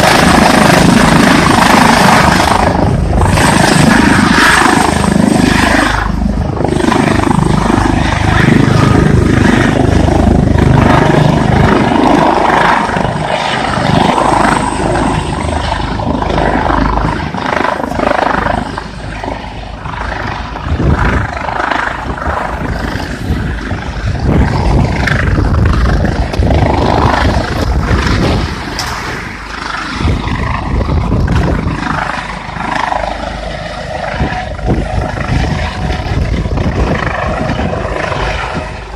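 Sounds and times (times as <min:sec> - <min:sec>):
helicopter rotor and engine: 0:00.0 - 0:38.9
wind buffeting microphone: 0:00.0 - 0:38.9.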